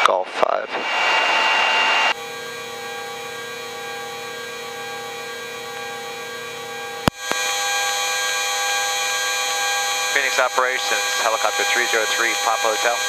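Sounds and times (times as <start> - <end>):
helicopter engines and rotor whine: 0.0 - 13.0.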